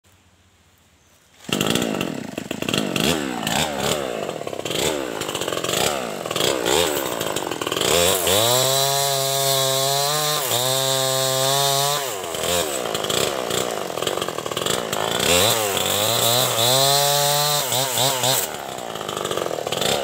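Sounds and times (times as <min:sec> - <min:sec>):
chainsaw cutting wood: 0:01.3 - 0:20.0
chainsaw revving: 0:01.4 - 0:20.0.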